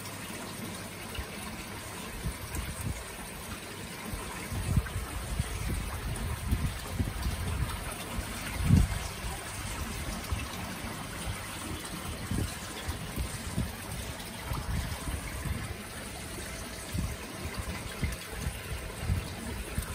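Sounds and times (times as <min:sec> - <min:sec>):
water trickling into a pond: 0:00.0 - 0:19.9
bubbling outlet: 0:02.2 - 0:19.9.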